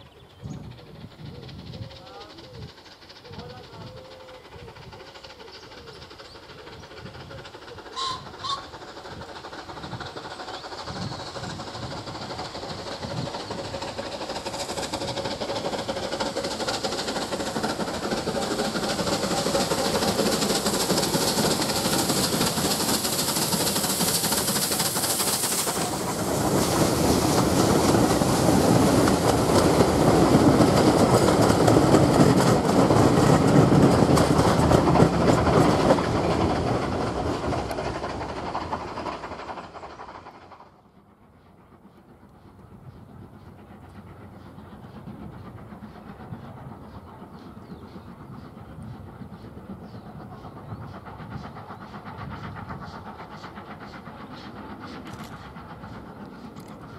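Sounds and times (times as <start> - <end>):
steam locomotive passing: 0.0 - 56.9
train coaches rumbling: 0.0 - 56.9
wheels clicking on rails: 0.0 - 56.9.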